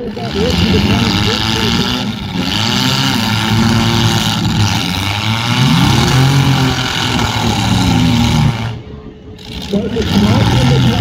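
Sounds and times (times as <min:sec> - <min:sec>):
car engines revving hard: 0:00.0 - 0:11.0
rough wash of noise: 0:00.0 - 0:11.0.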